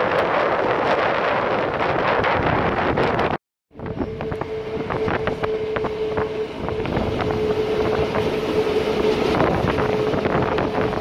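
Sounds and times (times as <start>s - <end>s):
electric train whine: 0.0s - 11.0s
wheels rattling on rail: 0.0s - 11.0s
wind buffeting microphone: 0.0s - 11.0s.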